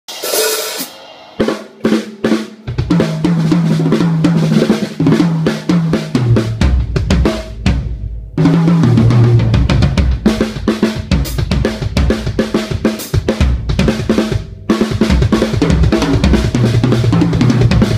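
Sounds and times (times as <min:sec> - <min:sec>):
drum kit playing: 0:00.0 - 0:17.9.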